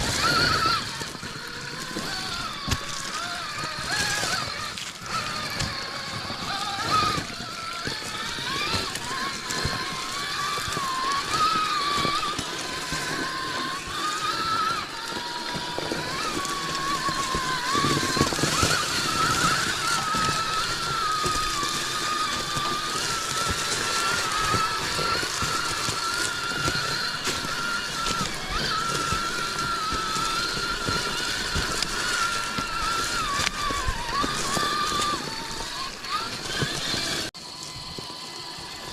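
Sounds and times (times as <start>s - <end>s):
toy car electric motor whining: 0.0s - 38.9s.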